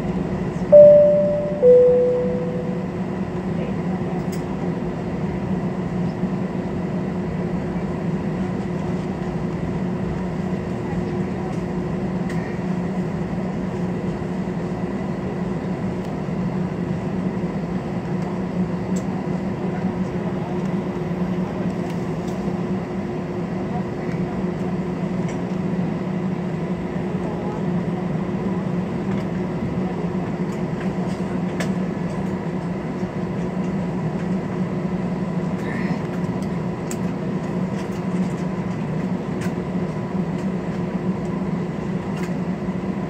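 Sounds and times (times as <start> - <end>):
airliner cabin drone: 0.0 - 43.0.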